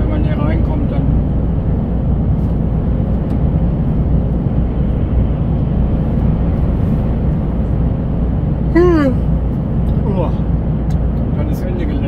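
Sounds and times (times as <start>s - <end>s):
truck diesel engine and tyres: 0.0s - 12.0s.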